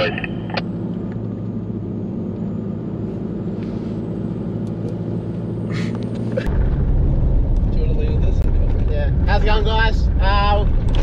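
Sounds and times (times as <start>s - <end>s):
car engine and road hum: 0.0s - 11.0s
tyres rumbling on gravel road: 0.0s - 11.0s.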